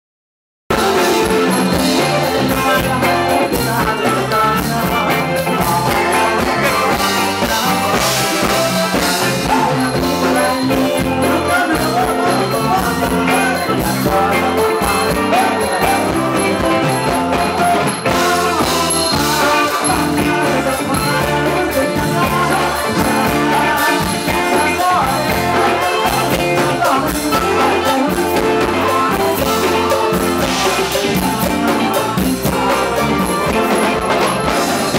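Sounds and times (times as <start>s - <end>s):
congas: 0.7s - 34.9s
drum kit: 0.7s - 34.9s
live band dance music: 0.7s - 34.9s
person singing: 0.7s - 34.9s.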